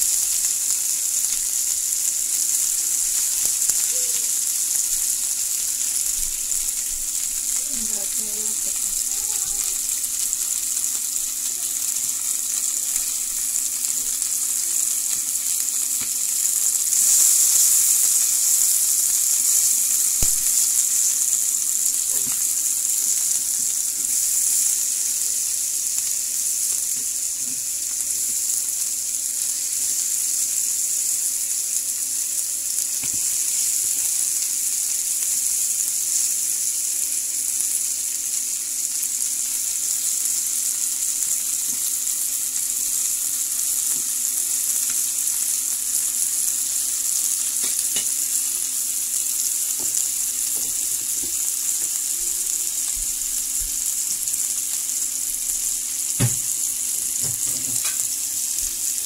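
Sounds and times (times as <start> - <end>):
meat and potatoes sizzling in a pan: 0.0 - 59.0.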